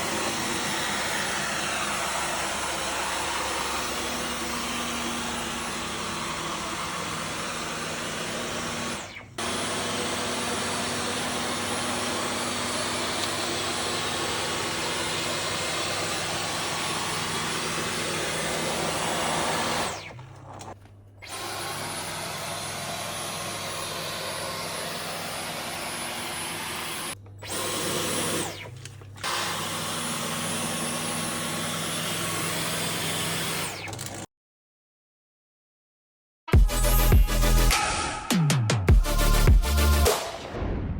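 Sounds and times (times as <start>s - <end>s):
cordless vacuum whirring: 0.0s - 34.3s.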